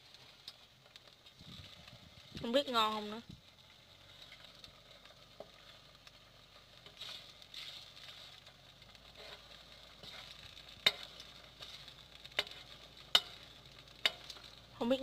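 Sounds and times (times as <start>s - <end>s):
batter frying in oil: 0.0s - 15.0s.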